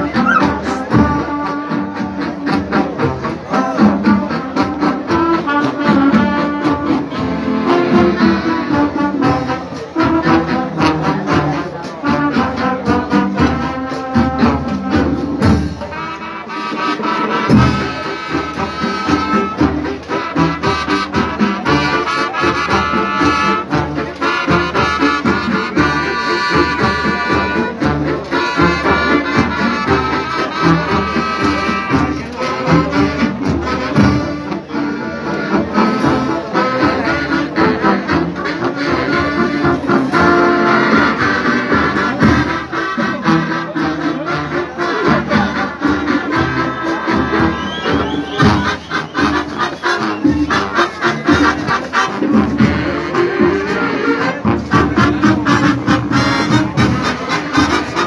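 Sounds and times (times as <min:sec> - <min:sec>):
marching band playing: 0:00.0 - 0:58.0.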